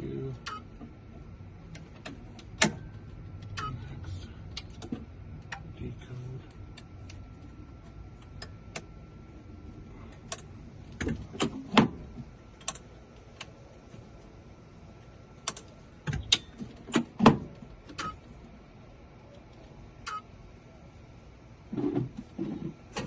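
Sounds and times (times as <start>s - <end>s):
faint high hum: 0.0s - 23.0s.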